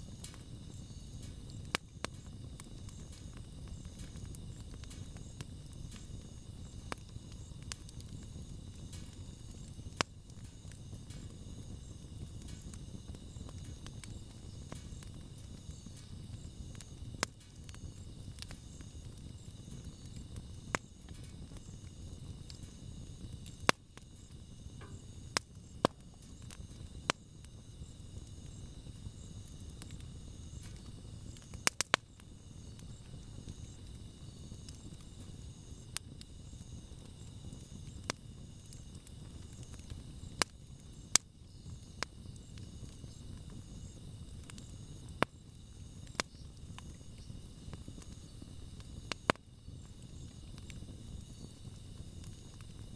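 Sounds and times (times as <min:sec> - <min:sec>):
burning wood crackling and popping: 0:00.0 - 0:52.9
campfire rumbling: 0:00.0 - 0:52.9.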